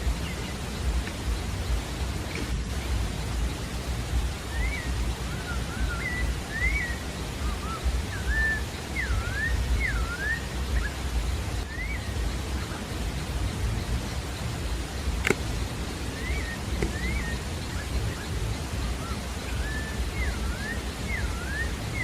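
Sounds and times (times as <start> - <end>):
low rushing noise: 0.0 - 22.0
thrush singing whistled notes: 0.0 - 22.0.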